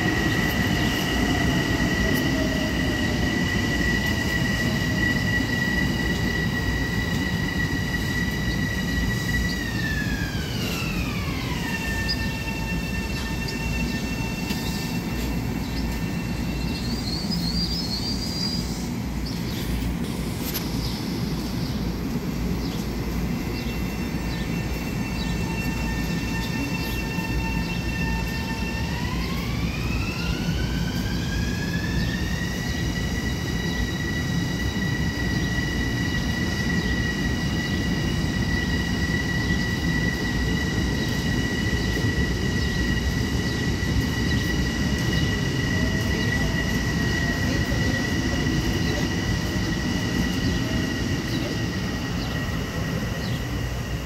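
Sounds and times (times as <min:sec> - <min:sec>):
electric train high whine: 0:00.0 - 0:54.0
train cars low rumble: 0:00.0 - 0:54.0.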